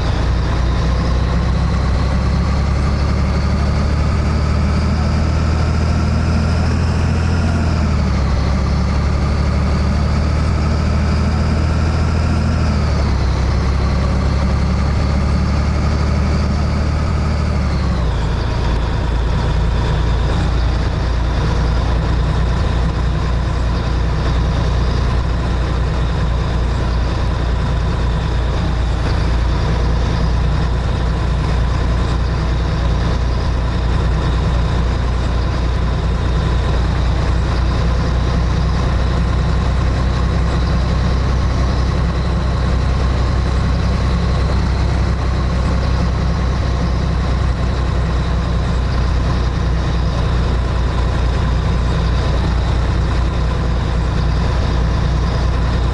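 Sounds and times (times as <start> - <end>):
diesel truck engine drone: 0.0 - 55.9.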